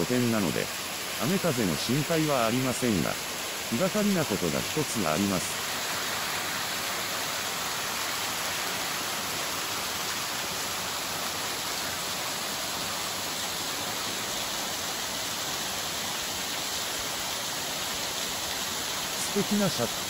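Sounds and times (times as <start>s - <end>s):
waterfall splashing onto rocks: 0.0s - 20.0s.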